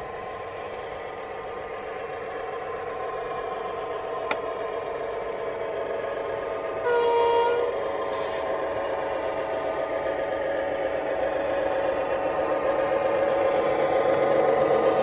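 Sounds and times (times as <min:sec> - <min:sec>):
diesel engine through small speaker: 0:00.0 - 0:15.0.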